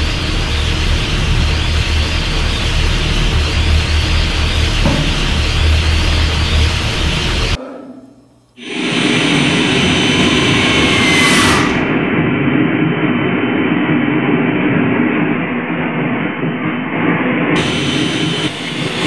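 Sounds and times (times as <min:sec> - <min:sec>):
train-like rushing rumble: 0:00.0 - 0:07.6, 0:08.6 - 0:19.0.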